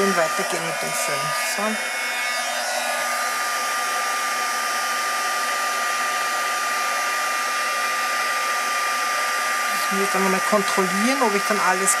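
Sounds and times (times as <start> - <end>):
heat gun blowing with high whine: 0.0 - 12.0.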